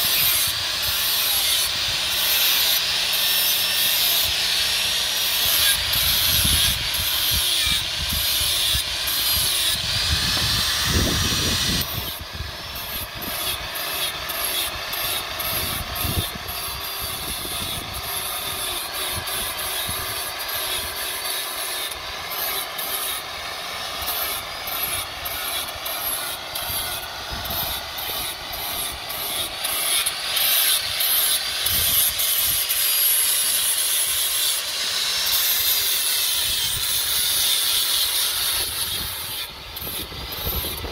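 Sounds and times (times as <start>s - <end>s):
angle grinder grinding steel: 0.0s - 40.9s.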